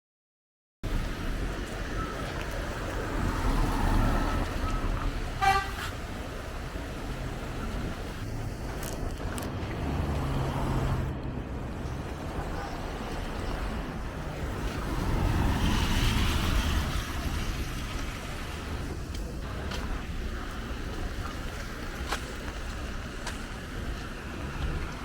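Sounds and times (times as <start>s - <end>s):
motor vehicles running: 0.8s - 25.0s
vehicle passing: 0.9s - 25.0s.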